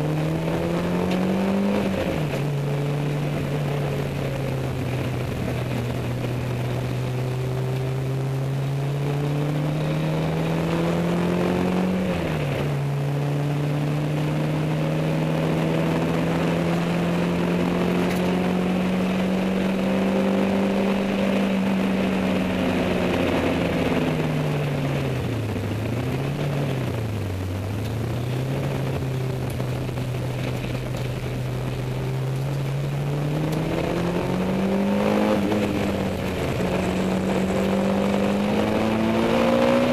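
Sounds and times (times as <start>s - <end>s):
car engine under load: 0.0s - 39.9s.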